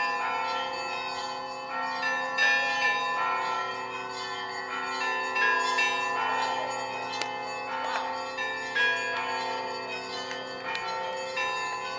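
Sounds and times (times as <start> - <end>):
church bells ringing a peal: 0.0 - 11.9
low bells humming: 0.0 - 11.9.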